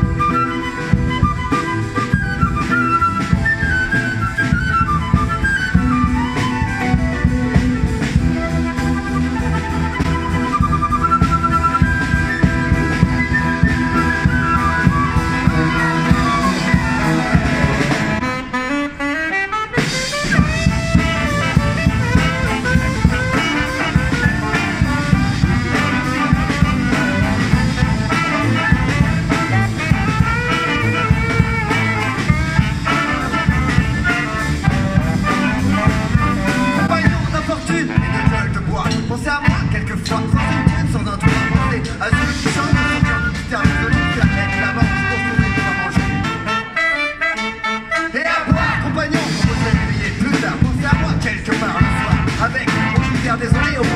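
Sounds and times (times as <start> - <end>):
street brass band playing: 0.0 - 53.9.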